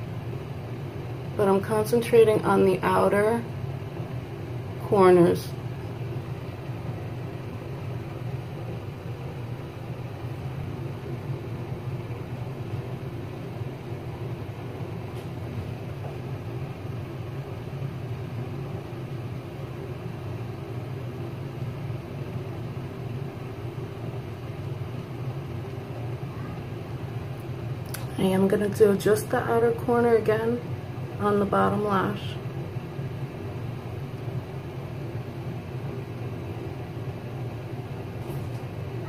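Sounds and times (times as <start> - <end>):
low room noise rumble: 0.0 - 39.0.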